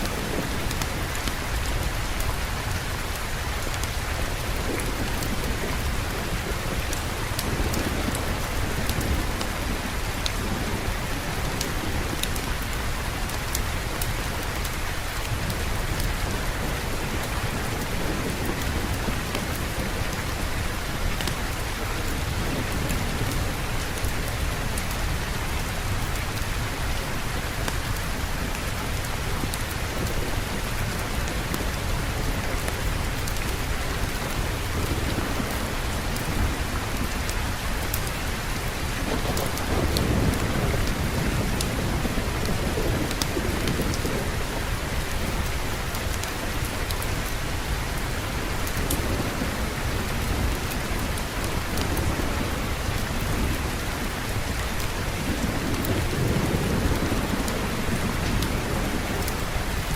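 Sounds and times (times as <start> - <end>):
heavy rain hissing: 0.0 - 59.9
low rumble of thunder: 0.0 - 59.9.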